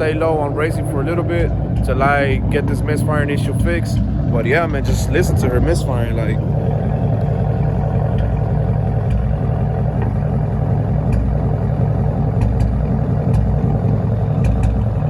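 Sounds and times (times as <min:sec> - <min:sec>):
car engine running: 0:00.0 - 0:15.0
engine misfire pops: 0:01.4 - 0:02.8, 0:03.6 - 0:15.0.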